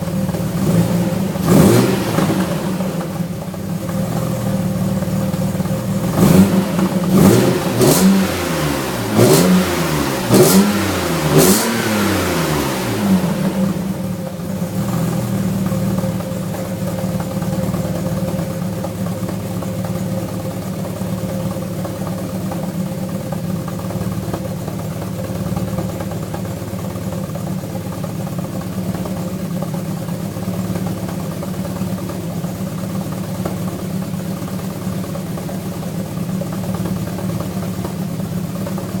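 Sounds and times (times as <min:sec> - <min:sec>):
car engine revving and idling: 0:00.0 - 0:39.0
engine sharp cracks: 0:00.0 - 0:39.0.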